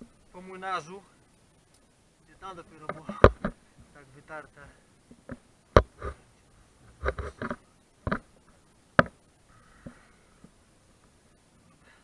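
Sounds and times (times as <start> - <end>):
rustling: 0.0 - 12.0.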